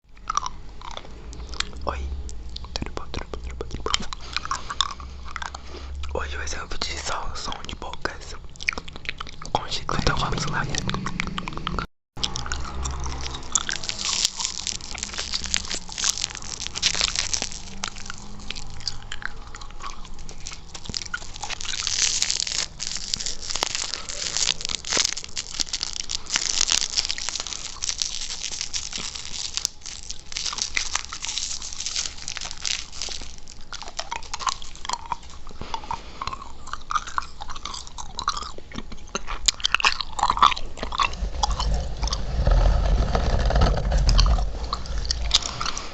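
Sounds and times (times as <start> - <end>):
wet gum chewing: 0.0 - 45.9.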